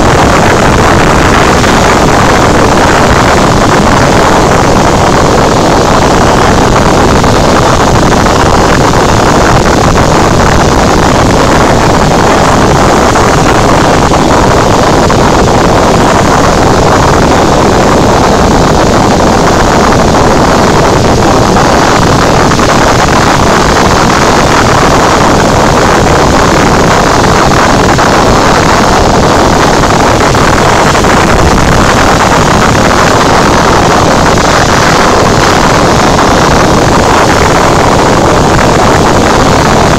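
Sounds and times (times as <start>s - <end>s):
air rushing past cabin: 0.0s - 39.9s
piston engine and propeller droning: 0.0s - 39.9s.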